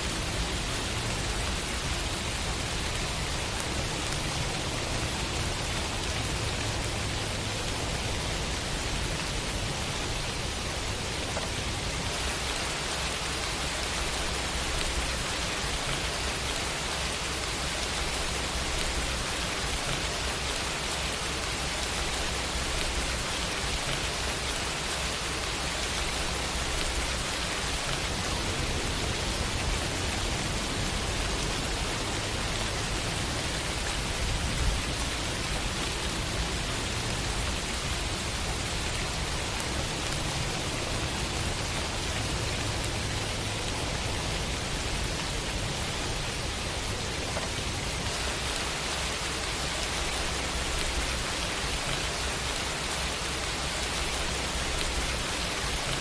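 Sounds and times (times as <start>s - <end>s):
steady rain hissing: 0.0s - 56.0s.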